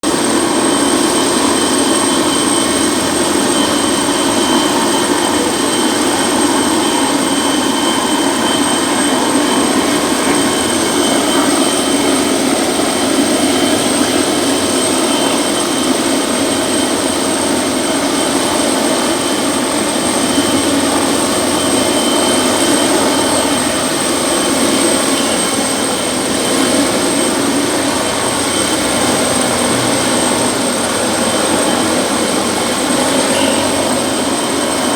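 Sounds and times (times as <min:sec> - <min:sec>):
helicopter engine and rotor: 0:00.0 - 0:34.9
high whine: 0:00.0 - 0:34.9.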